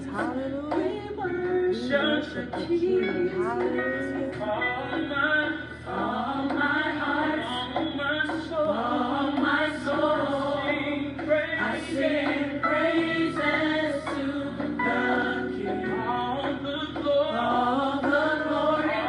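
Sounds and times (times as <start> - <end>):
recorded gospel song with choir: 0.0 - 19.0
woman singing along: 0.0 - 19.0.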